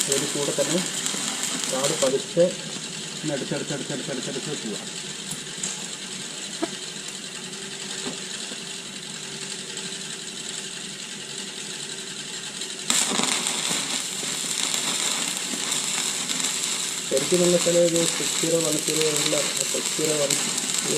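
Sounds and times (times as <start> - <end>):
welding arc crackling: 0.0 - 20.9.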